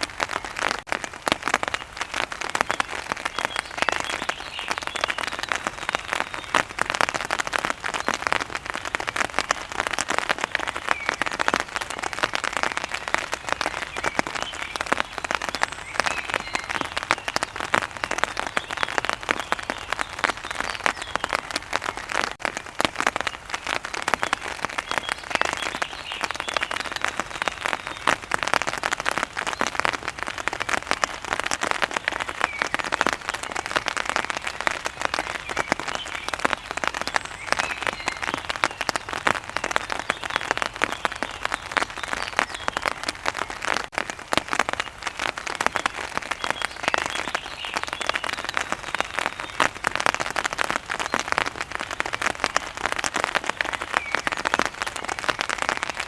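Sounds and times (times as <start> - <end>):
rain drops striking a surface: 0.0 - 56.0.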